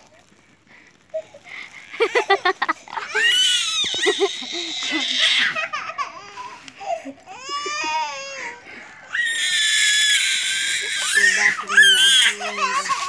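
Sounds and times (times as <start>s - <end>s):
small children crying and squealing: 1.0s - 13.0s.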